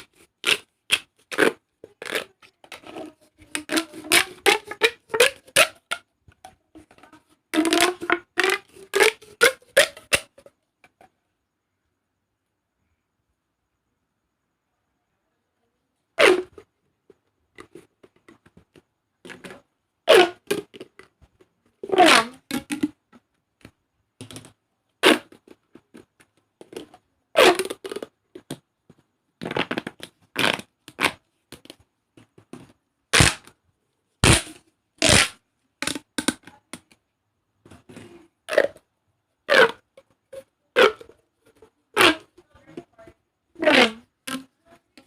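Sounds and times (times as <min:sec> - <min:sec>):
plastic pop tubes crackling: 0:00.0 - 0:11.0, 0:16.2 - 0:33.6, 0:34.2 - 0:42.9, 0:43.6 - 0:45.0.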